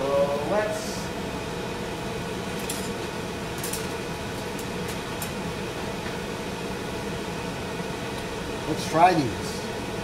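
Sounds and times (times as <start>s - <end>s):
range hood fan running: 0.0s - 10.0s.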